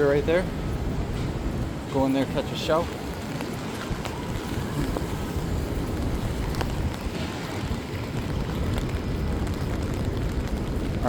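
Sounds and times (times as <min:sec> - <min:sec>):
traffic rumble: 0:00.0 - 0:11.0
wind buffeting microphone: 0:00.0 - 0:11.0.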